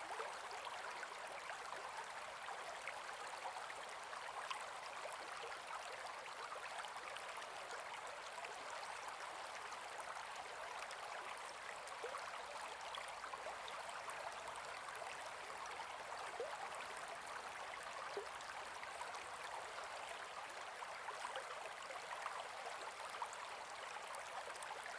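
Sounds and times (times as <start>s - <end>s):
river water flowing and babbling: 0.0s - 24.9s.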